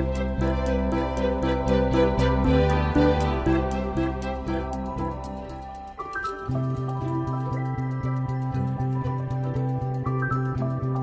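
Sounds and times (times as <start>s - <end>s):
soft instrumental chords: 0.0s - 11.0s.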